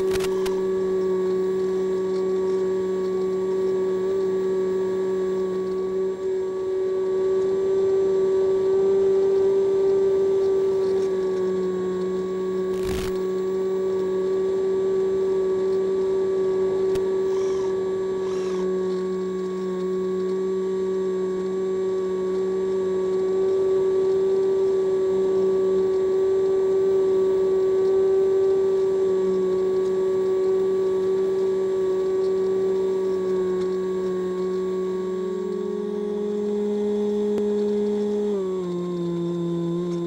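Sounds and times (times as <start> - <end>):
electric motor and propeller whine: 0.0 - 40.0.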